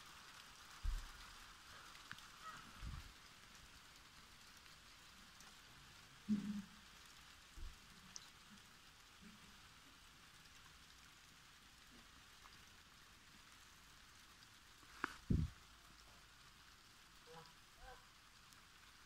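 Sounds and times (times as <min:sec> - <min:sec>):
light rain on wet soil: 0:00.0 - 0:19.0.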